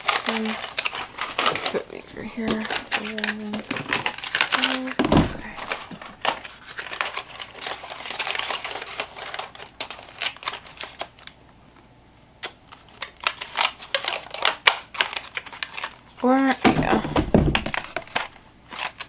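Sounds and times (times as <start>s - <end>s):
packaging crinkling: 0.0s - 11.4s, 12.7s - 19.0s.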